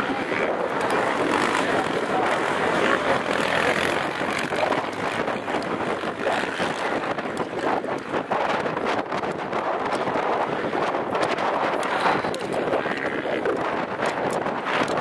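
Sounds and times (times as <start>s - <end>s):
quad engines droning: 0.0s - 15.0s.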